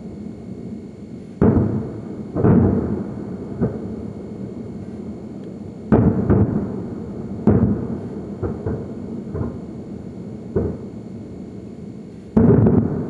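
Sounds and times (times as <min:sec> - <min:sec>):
distant fireworks booming: 0:01.4 - 0:11.4, 0:12.4 - 0:13.0.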